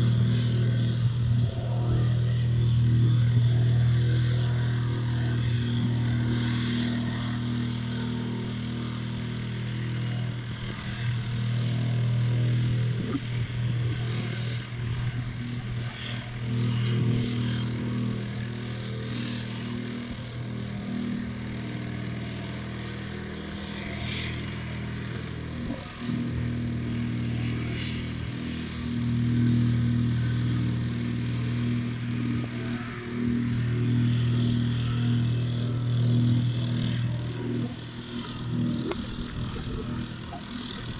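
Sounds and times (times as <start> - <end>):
plate compactor engine running: 0.0 - 40.9.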